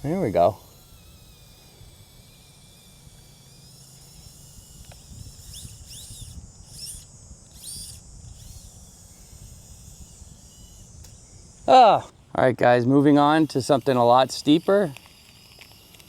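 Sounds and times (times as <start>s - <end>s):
small electric motor running: 0.0s - 16.0s.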